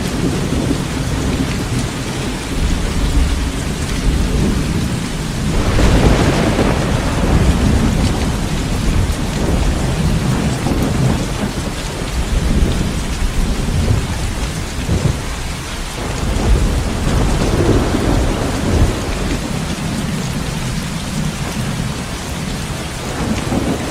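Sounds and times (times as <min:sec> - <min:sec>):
heavy rain falling: 0:00.0 - 0:23.9
rolling thunder: 0:00.0 - 0:23.9.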